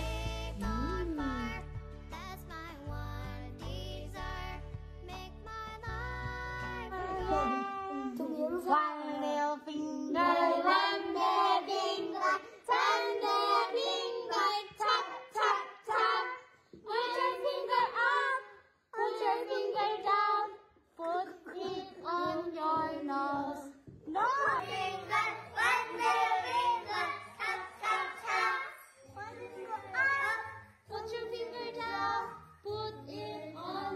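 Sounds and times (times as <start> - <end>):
young children singing: 0.0 - 1.6, 2.2 - 33.9.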